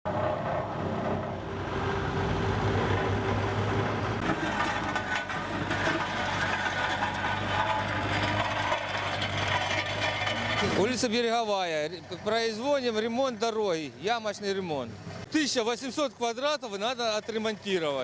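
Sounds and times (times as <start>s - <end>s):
road machinery engines running: 0.1s - 18.0s.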